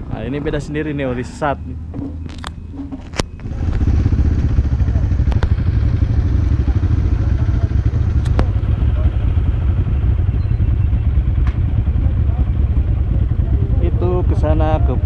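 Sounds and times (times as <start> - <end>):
motorcycle engine running: 1.9 - 15.0.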